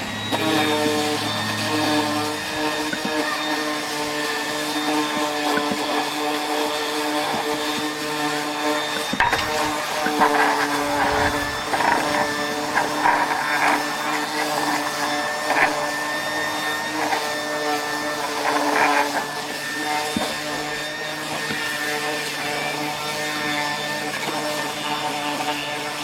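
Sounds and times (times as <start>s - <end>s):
power sander running: 0.0s - 26.0s
sander scraping surface: 0.0s - 26.0s.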